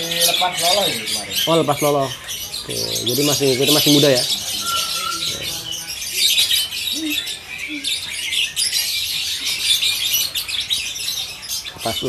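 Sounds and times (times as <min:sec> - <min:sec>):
chorus of birds chirping: 0:00.0 - 0:12.0.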